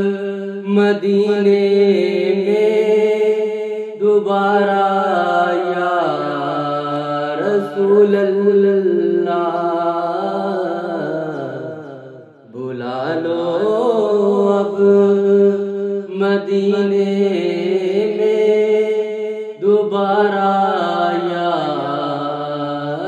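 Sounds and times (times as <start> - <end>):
man singing devotional song: 0.0 - 23.0.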